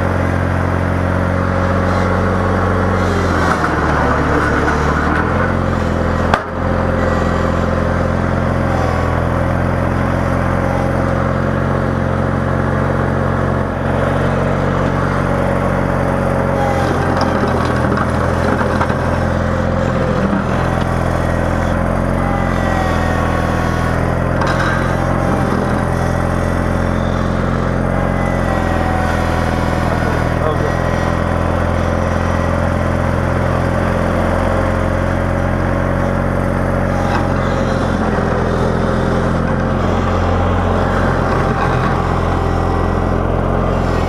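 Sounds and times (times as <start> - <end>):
vehicle engine running under load: 0.0 - 44.0.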